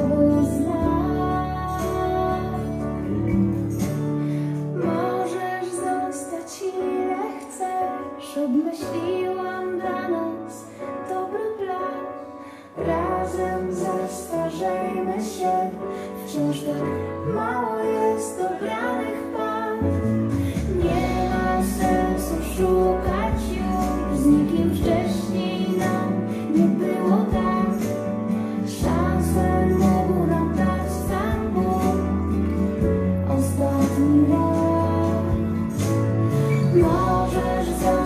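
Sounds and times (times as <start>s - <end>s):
instrumental backing: 0.0s - 38.0s
woman singing slow song: 0.0s - 38.0s.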